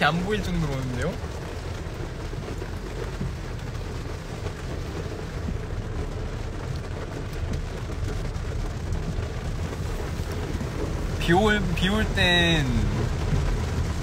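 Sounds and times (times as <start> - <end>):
heavy rain on car roof: 0.0 - 14.0
road noise: 0.0 - 14.0.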